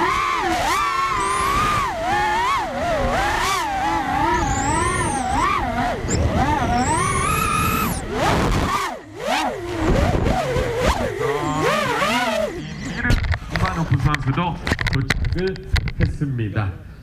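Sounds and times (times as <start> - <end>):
drone motors whining: 0.0 - 15.9.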